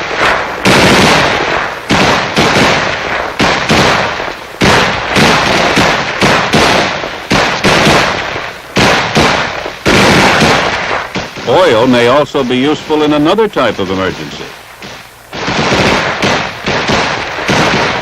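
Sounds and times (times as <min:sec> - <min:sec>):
rifle shots echoing: 0:00.0 - 0:18.0.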